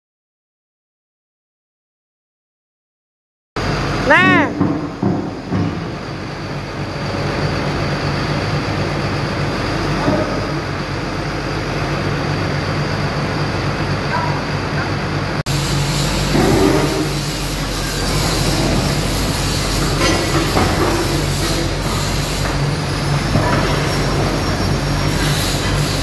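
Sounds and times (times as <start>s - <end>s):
excavator diesel engine running: 3.6s - 26.0s.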